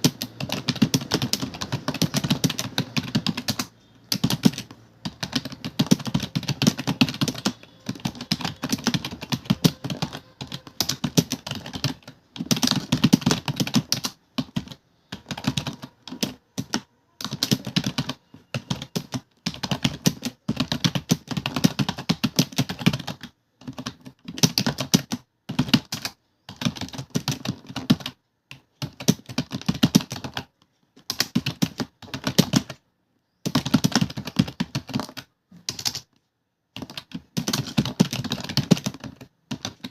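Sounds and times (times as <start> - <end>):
fast typing on keyboard: 0.0 - 32.8, 33.4 - 39.9.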